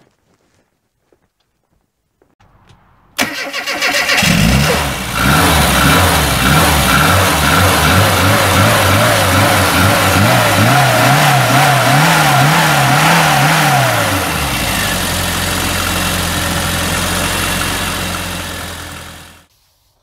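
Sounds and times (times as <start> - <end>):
car engine idling: 2.4 - 19.5
car engine revving: 2.6 - 19.5.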